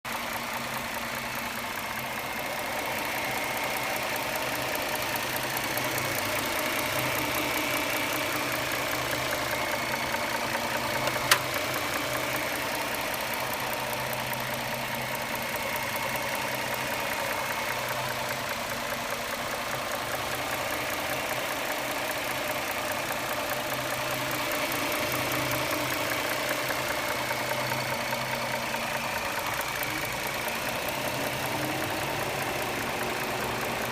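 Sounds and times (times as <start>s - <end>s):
car engine idling with ticking: 0.1s - 33.9s.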